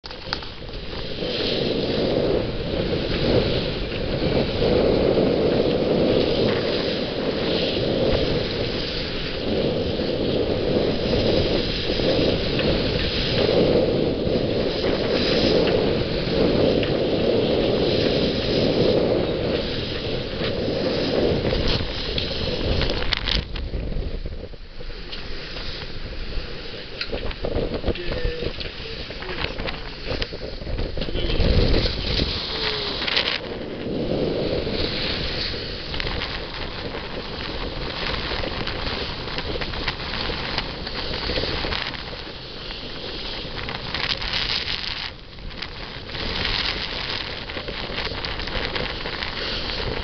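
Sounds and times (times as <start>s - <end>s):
water rushing along hull: 0.0s - 50.0s
wind buffeting microphone: 0.0s - 50.0s.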